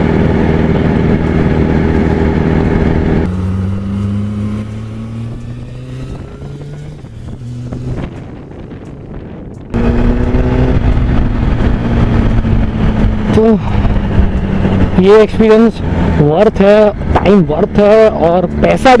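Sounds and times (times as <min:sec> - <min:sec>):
motorcycle engine at speed: 0:00.0 - 0:19.0.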